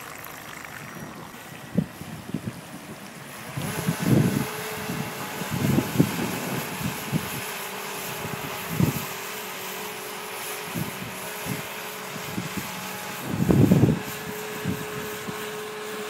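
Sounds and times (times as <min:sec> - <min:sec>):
distant electric motor whine: 0:00.0 - 0:16.0
wind buffeting microphone: 0:00.2 - 0:09.3, 0:10.6 - 0:15.8.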